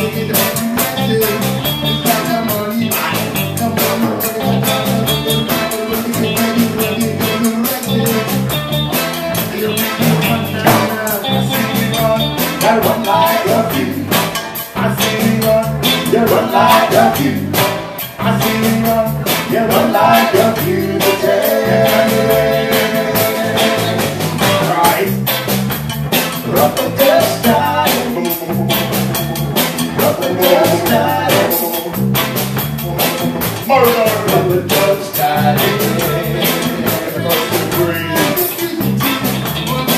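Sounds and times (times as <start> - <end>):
man singing: 0.0 - 25.3, 26.4 - 39.9
live reggae band playing: 0.0 - 39.9.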